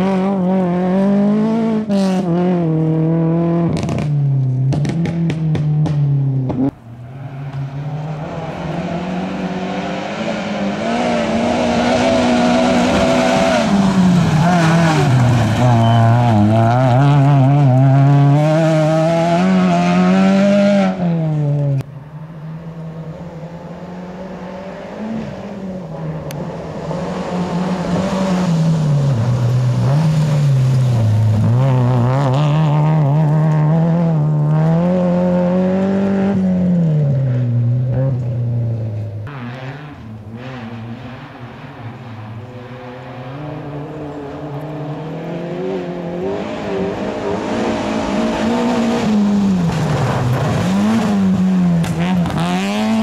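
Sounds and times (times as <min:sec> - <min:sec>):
rally cars driving on gravel: 0:00.0 - 0:53.0.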